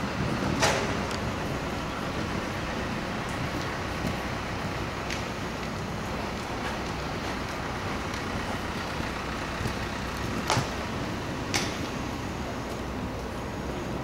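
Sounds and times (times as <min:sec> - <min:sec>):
background rumble and hiss: 0:00.0 - 0:14.0.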